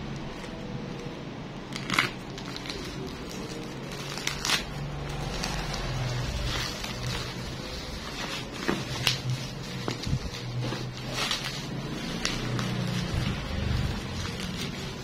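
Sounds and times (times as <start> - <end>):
plastic packaging crinkling: 1.6 - 15.0.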